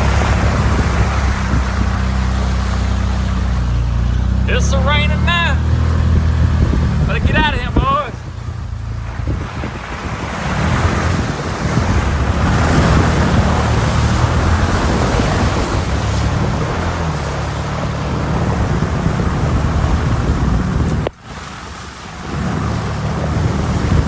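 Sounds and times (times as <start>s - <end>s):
wind buffeting microphone: 0.0s - 4.6s, 5.6s - 24.0s
vehicle engine running: 0.0s - 24.0s.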